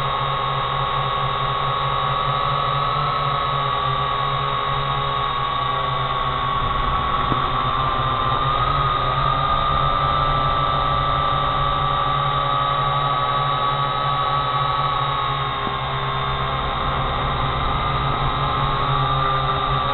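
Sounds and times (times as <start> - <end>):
drone propellers whining: 0.0 - 19.9.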